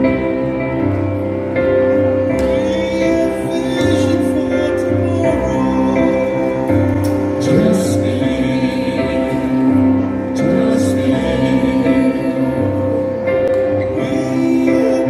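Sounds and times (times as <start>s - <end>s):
bass line: 0.0s - 15.0s
sustained chords: 0.0s - 15.0s.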